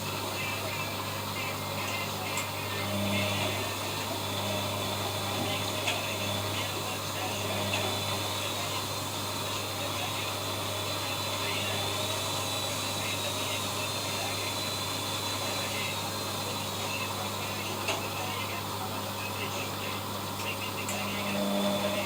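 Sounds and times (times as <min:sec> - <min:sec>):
faint high whine: 0:00.0 - 0:22.0
washing machine motor hum: 0:00.0 - 0:22.0.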